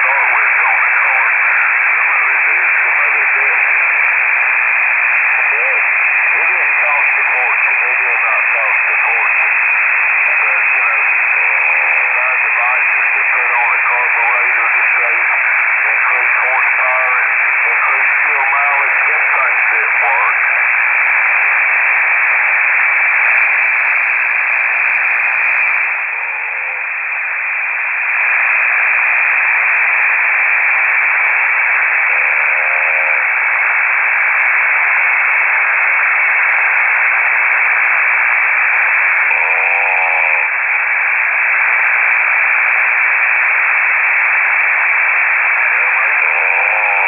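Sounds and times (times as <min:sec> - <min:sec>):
radio static hiss: 0:00.0 - 0:47.0.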